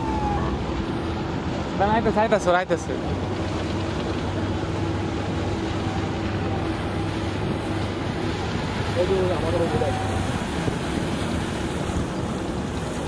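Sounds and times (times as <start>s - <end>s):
engine drone: 0.0s - 13.0s
wind rushing over microphone: 0.0s - 13.0s.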